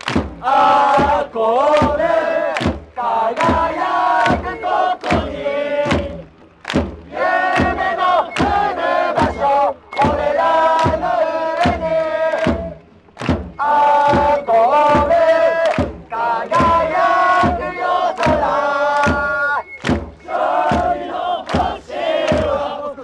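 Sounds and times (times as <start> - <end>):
crowd chanting: 0.0 - 23.0
rhythmic hand claps: 0.0 - 23.0.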